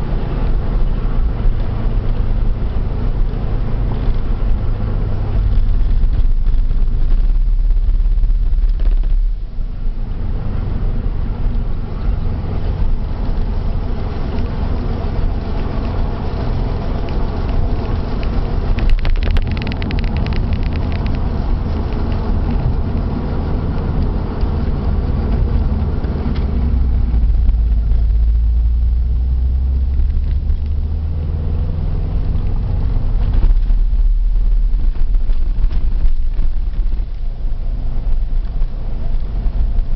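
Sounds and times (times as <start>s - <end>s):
road and drivetrain rumble: 0.0s - 39.9s.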